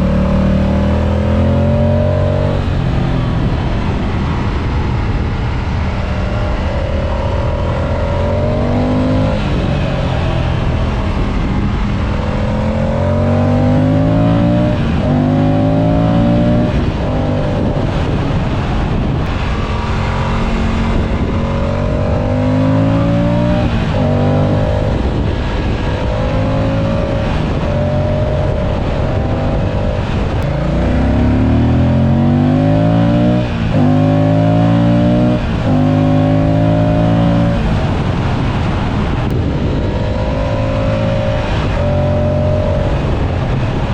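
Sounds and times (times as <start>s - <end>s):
motorcycle engine accelerating: 0.0s - 43.9s
wind rushing past microphone: 0.0s - 43.9s.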